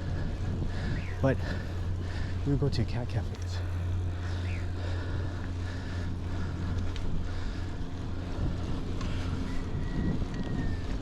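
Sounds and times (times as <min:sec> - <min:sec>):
bicycle road noise: 0:00.0 - 0:11.0
wind rumble on microphone: 0:00.0 - 0:11.0.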